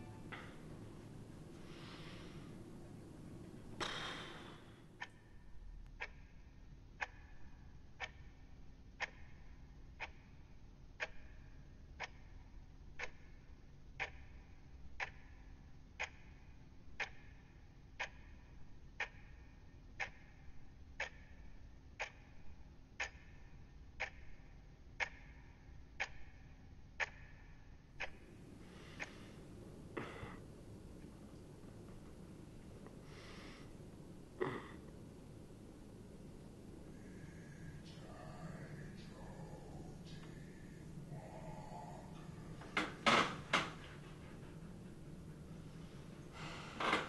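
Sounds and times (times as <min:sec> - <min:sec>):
clock ticking: 0:03.8 - 0:29.4, 0:30.0 - 0:34.0, 0:36.1 - 0:47.0.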